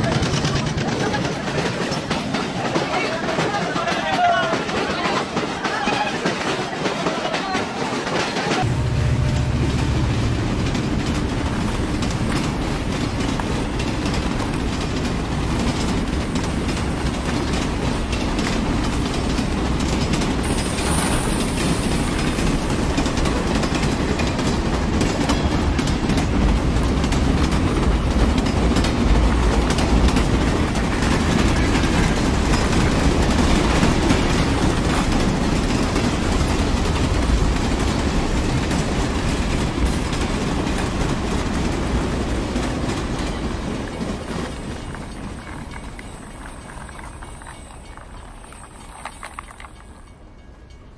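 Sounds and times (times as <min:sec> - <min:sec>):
train rumbling: 0:00.0 - 0:50.9
train wheels clicking: 0:00.0 - 0:50.9.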